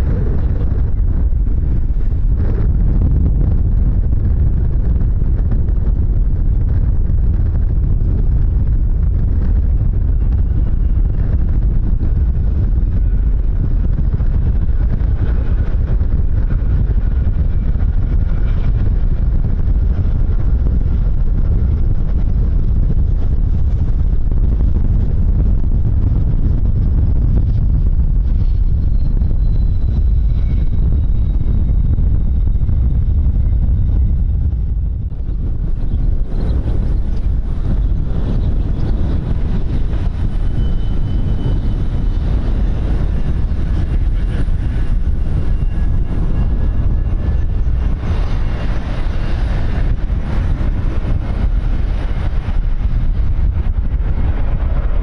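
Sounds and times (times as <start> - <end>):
jet engine whine: 0.0 - 55.0
wind buffeting microphone: 0.0 - 55.0.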